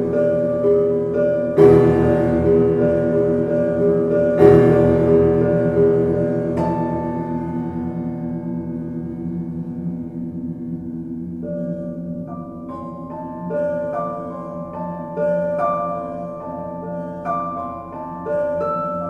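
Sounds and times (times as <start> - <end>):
low electronic drone: 0.0 - 19.0.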